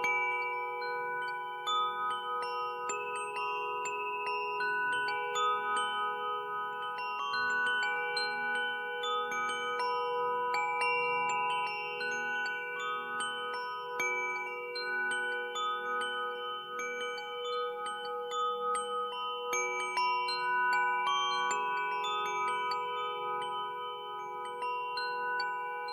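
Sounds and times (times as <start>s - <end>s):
wind chimes ringing: 0.0s - 25.9s.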